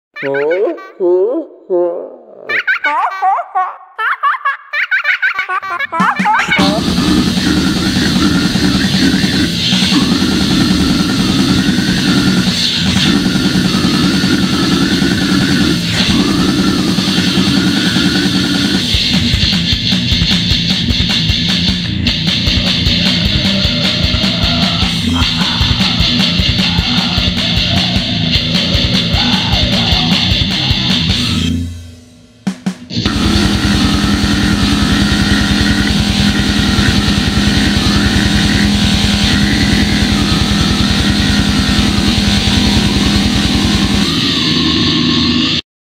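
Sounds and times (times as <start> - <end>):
drums: 5.7 - 45.6
distorted guitars: 6.0 - 45.6.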